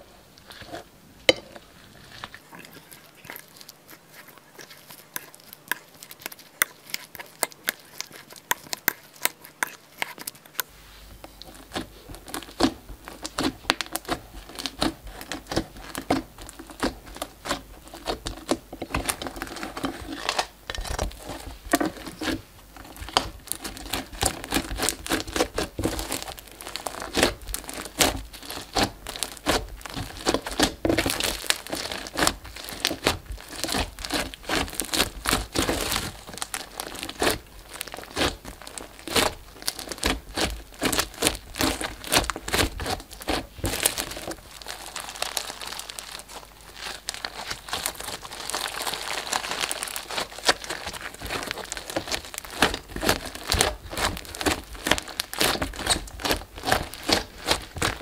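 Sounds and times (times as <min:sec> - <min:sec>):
slime kneaded by hand crackling: 0:00.0 - 0:58.0.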